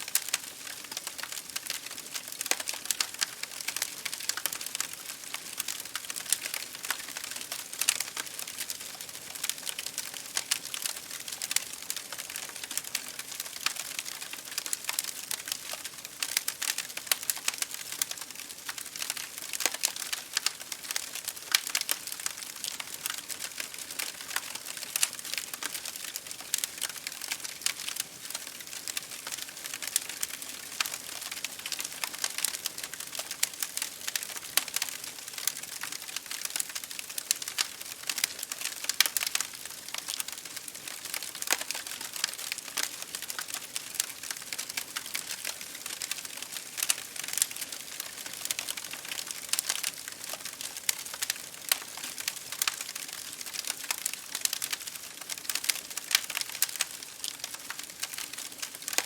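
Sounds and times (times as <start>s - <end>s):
rain on a window: 0.0s - 59.0s
wood fire crackling: 0.0s - 59.0s.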